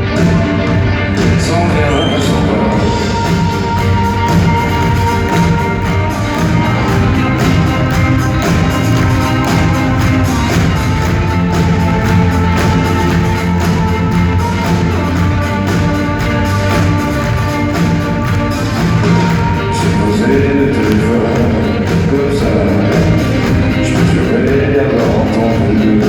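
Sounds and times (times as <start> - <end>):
live band playing pop music: 0.0 - 26.0.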